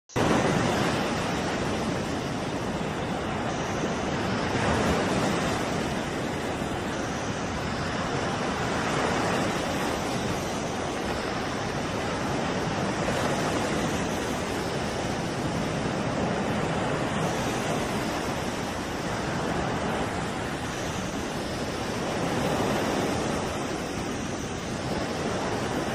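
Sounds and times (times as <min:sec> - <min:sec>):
heavy seas breaking: 0:00.1 - 0:25.9.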